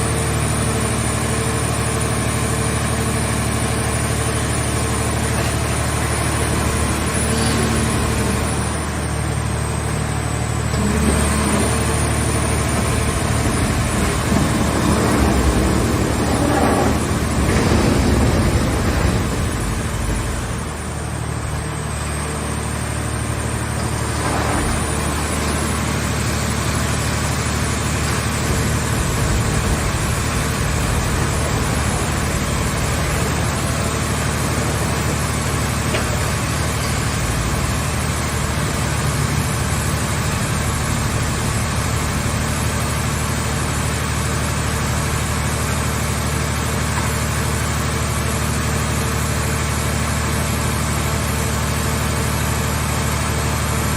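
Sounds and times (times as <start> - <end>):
engine power unit droning: 0.0 - 53.9.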